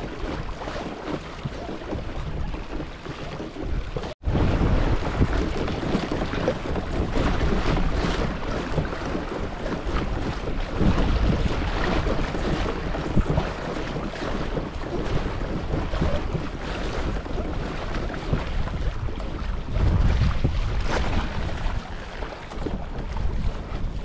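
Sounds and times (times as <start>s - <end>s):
water washing along hull: 0.0s - 24.0s
wind buffeting microphone: 0.0s - 24.0s.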